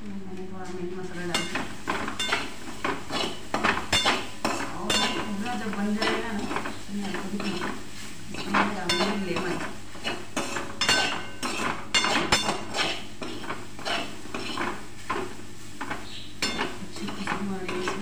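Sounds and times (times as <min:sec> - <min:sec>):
metal spatula scraping a pan: 0:01.2 - 0:18.0.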